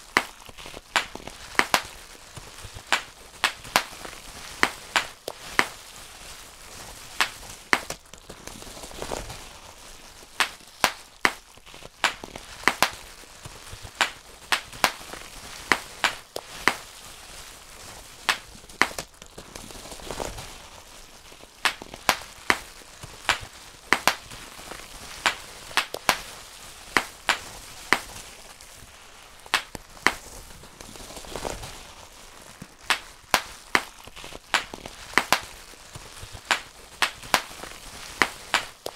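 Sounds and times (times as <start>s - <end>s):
bubble wrap popping: 0.0s - 38.9s
plastic sheet rustling: 0.0s - 38.9s.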